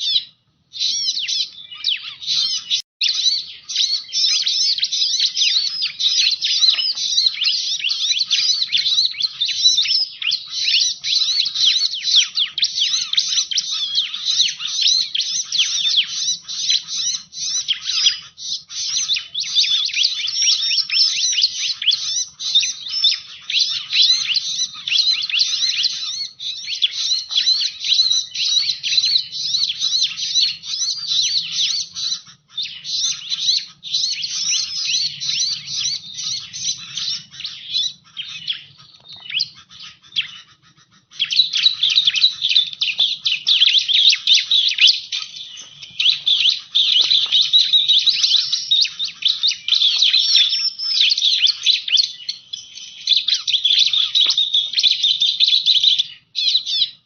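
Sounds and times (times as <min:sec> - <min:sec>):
bird chirps and trills: 0:00.0 - 0:57.0.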